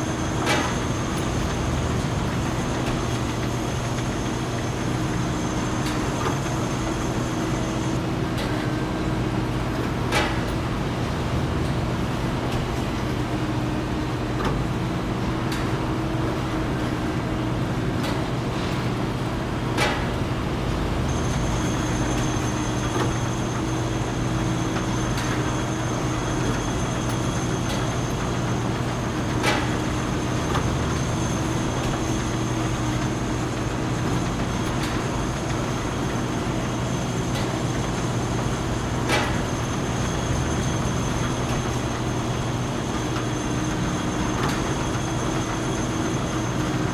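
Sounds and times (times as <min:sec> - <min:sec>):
factory machinery hum: 0:00.0 - 0:46.9.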